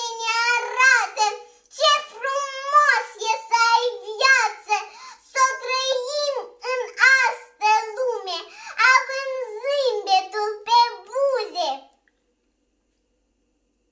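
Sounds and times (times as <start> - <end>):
girl reciting a poem: 0.0 - 11.9.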